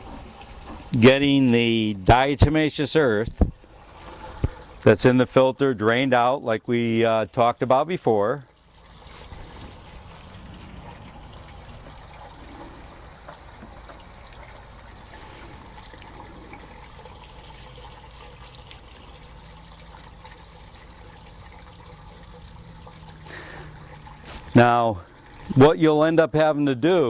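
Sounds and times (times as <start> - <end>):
water draining from filter: 0.0 - 27.0.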